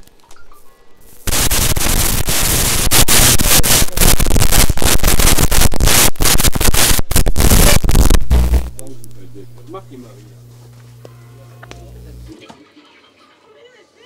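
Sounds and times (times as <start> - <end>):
harsh static noise music: 0.0 - 14.0.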